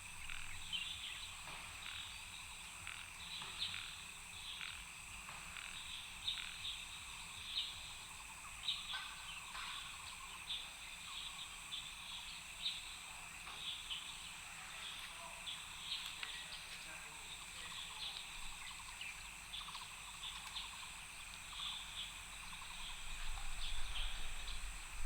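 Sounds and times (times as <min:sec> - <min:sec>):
frogs chirping: 0:00.0 - 0:25.0.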